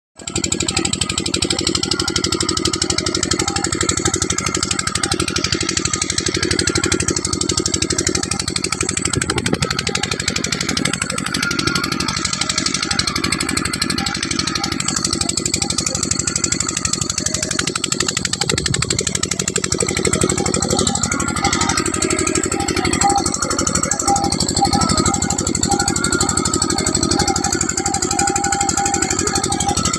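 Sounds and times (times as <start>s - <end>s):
engine running under load: 0.2s - 29.9s.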